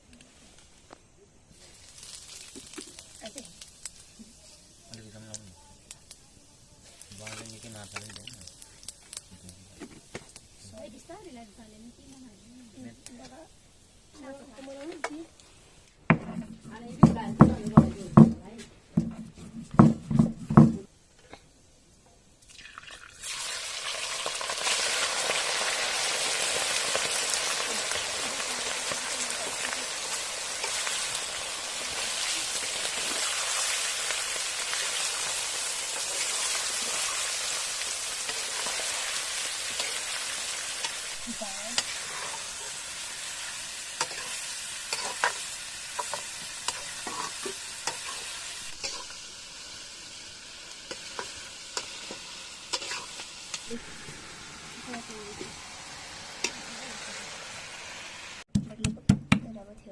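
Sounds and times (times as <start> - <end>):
food sizzling as it fries: 0.0 - 58.5.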